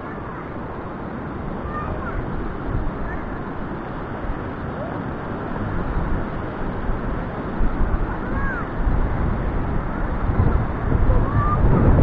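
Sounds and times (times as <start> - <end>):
surf breaking on stony shore: 0.0 - 12.0
wind on microphone: 0.0 - 12.0.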